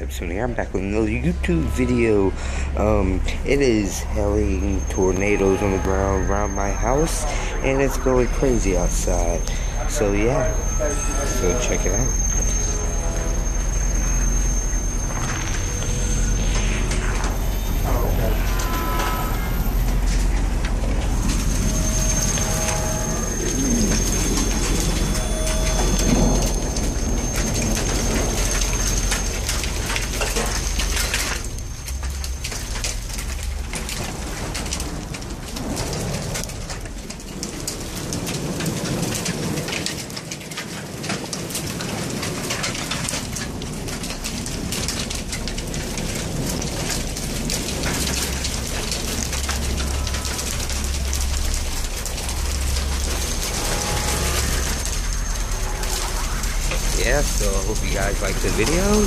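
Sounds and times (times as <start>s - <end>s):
heavy rain pouring: 0.0s - 59.0s
low thunder rumble: 0.0s - 59.0s.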